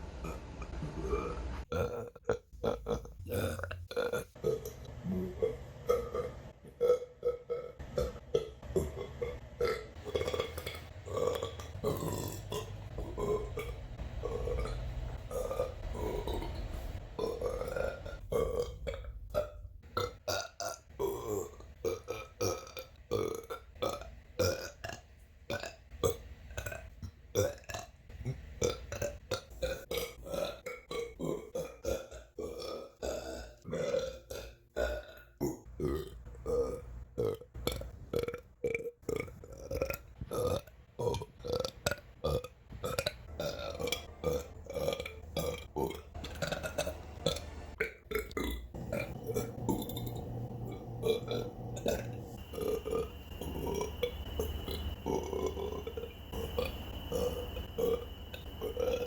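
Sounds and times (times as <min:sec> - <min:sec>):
woman burping: 0:00.2 - 0:24.7, 0:29.6 - 0:59.0.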